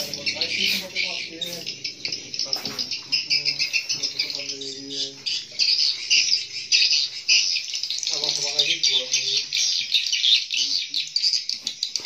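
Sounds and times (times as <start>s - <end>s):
swiftlets twittering: 0.0s - 11.5s.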